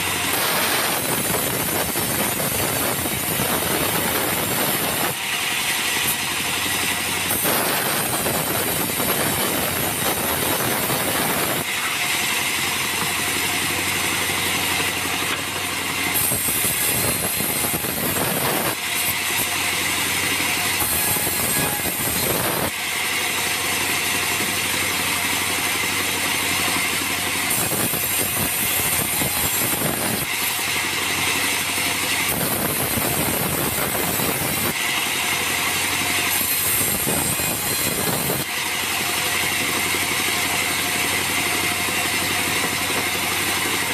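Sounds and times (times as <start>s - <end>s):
bandsaw blade cutting wood: 0.0s - 43.9s
bandsaw machine humming: 0.0s - 43.9s.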